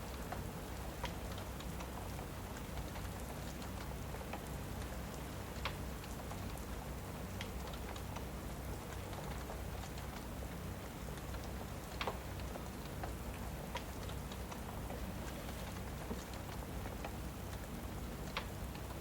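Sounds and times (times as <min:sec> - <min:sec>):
fireplace crackling and popping: 0:00.0 - 0:19.0
steady rain: 0:00.0 - 0:19.0.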